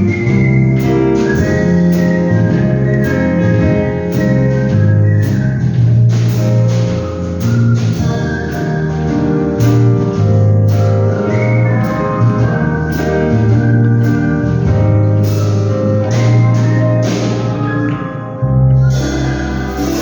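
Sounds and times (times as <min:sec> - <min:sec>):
instrumental backing with beat: 0:00.0 - 0:20.0
whistled melody: 0:00.0 - 0:20.0.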